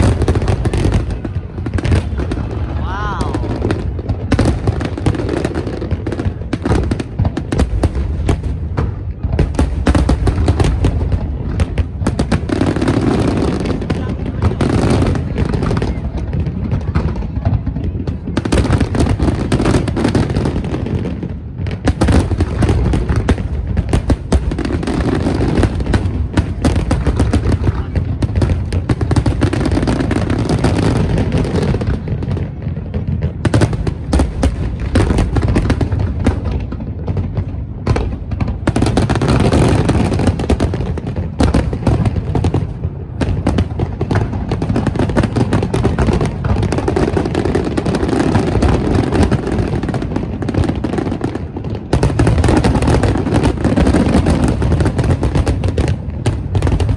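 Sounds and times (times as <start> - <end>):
fireworks bangs and booms: 0.0 - 56.9.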